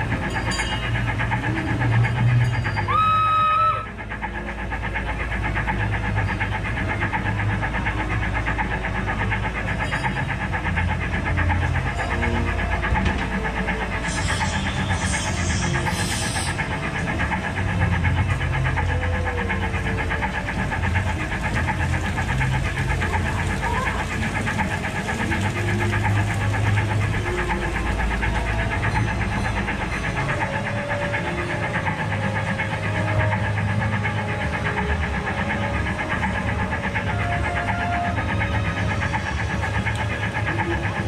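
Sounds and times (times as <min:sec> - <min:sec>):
ride train wheels rumbling and rattling: 0:00.0 - 0:41.0.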